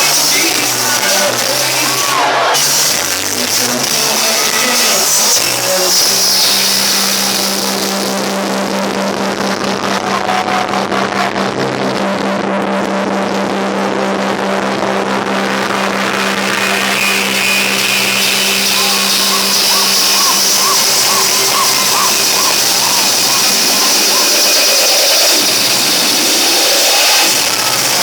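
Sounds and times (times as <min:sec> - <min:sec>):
distorted dance music: 0:00.0 - 0:28.0.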